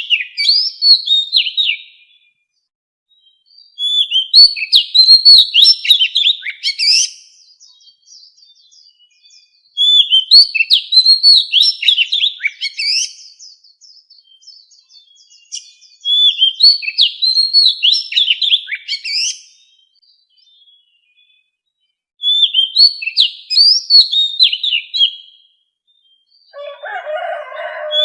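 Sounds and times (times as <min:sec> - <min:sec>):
bird singing whistled notes: 0:00.0 - 0:28.0.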